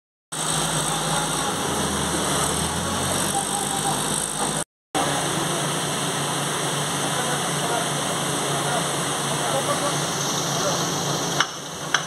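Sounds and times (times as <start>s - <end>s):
diesel engine running: 0.3s - 12.0s
industrial noise: 0.3s - 12.0s.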